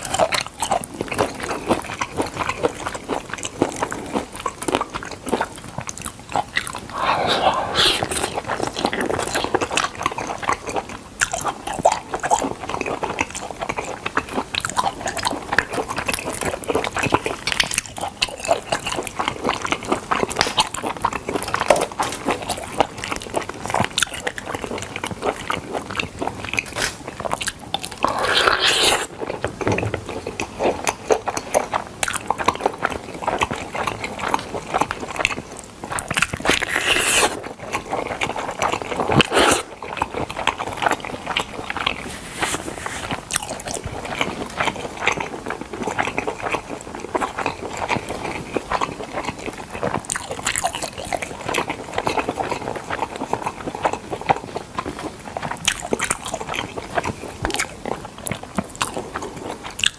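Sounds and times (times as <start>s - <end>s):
chewing and biting: 0.0s - 59.9s.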